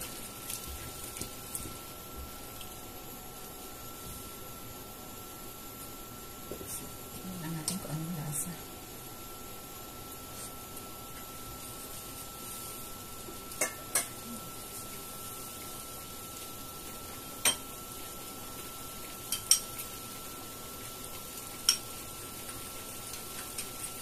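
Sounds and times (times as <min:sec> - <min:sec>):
simmering food hiss: 0:00.0 - 0:24.0.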